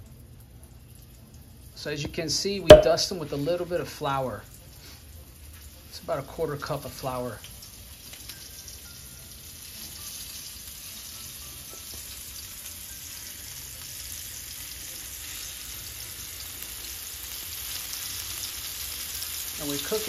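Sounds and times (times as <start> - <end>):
meatballs sizzling in oil: 0.1 - 20.0.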